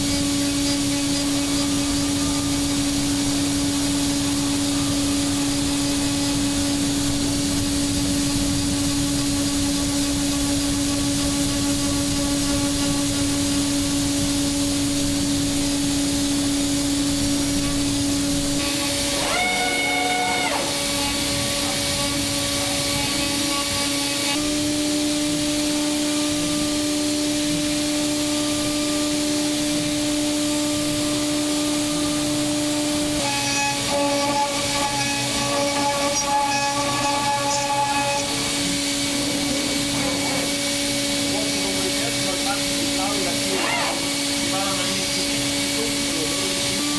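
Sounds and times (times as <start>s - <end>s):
milling machine cutting metal: 0.0s - 46.9s.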